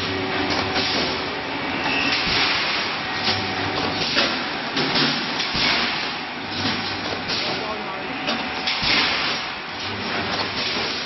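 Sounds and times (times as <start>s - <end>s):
machine hum and hiss: 0.0s - 11.0s
welding machine clanking: 0.0s - 11.0s.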